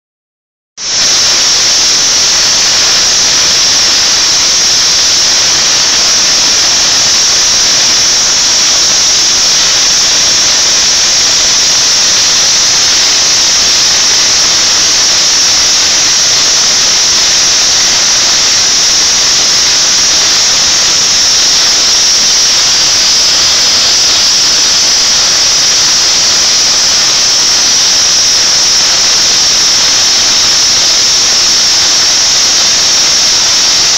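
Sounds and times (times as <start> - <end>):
high-pitched hiss of escaping steam: 0.8 - 33.9.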